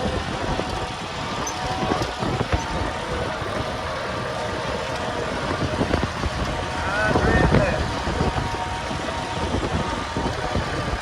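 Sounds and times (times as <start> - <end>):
tractor engine running: 0.0 - 11.0
wind buffeting microphone: 0.0 - 11.0.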